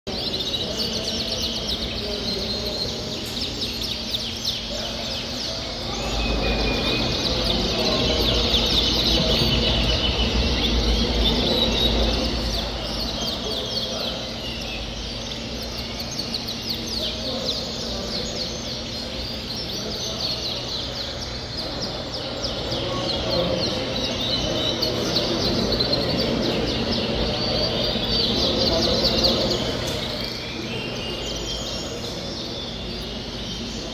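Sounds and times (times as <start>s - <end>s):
canaries chirping and singing: 0.1s - 33.9s.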